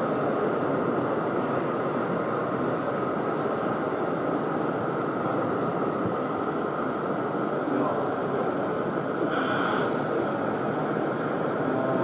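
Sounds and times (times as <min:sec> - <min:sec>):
exhibition hall din: 0:00.0 - 0:12.0
model train rumbling: 0:00.0 - 0:12.0.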